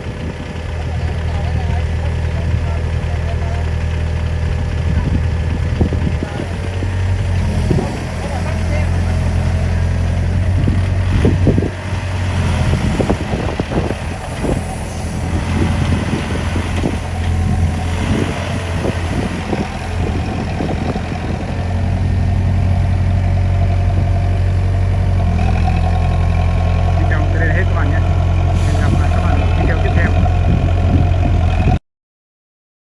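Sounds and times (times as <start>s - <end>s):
diesel engine running: 0.0s - 31.8s.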